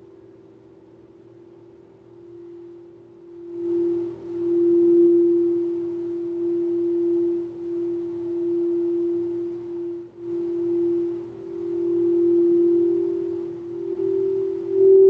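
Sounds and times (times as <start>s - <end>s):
singing bowl tone: 2.1s - 15.0s.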